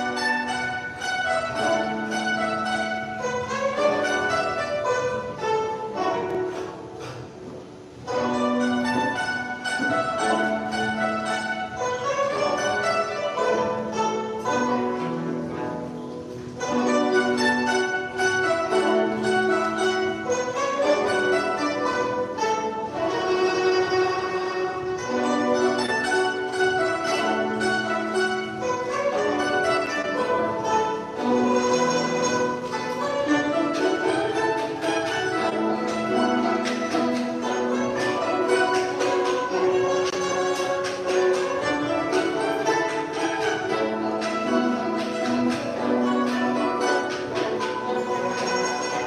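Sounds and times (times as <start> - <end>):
plucked zither ensemble: 0.0 - 49.0.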